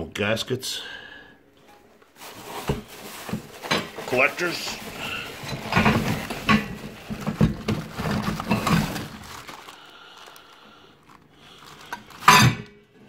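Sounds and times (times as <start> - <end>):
plastic wrapping crinkling: 2.0 - 12.7.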